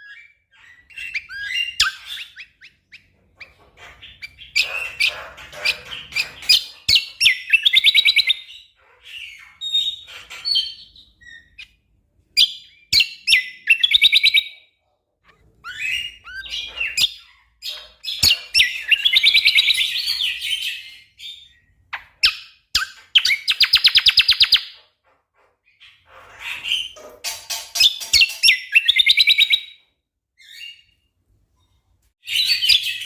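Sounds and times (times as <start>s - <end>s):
bird chirping and trilling: 0.0s - 25.0s, 25.6s - 29.8s, 30.4s - 33.0s.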